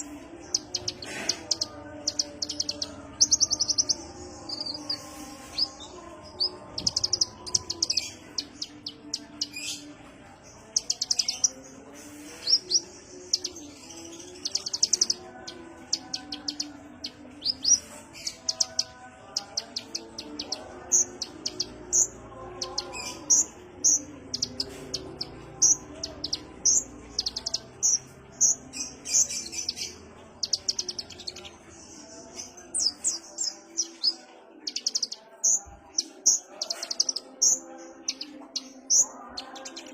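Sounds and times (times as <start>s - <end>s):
bird chirping and trilling: 0.0s - 9.9s, 12.3s - 39.9s.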